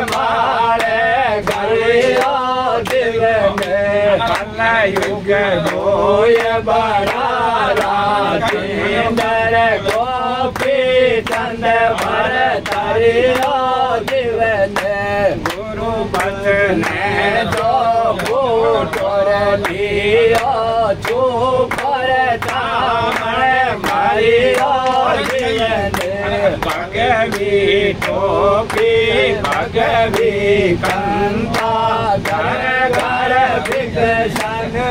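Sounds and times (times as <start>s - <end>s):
man singing chant-like melody: 0.0s - 34.9s.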